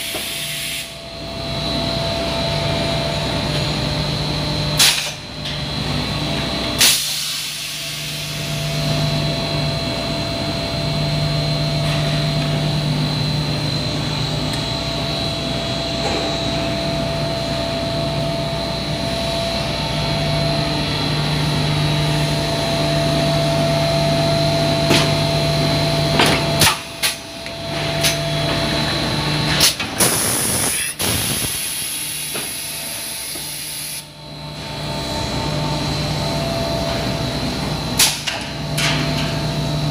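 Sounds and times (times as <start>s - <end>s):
machine hum with thin whine: 0.0s - 39.9s.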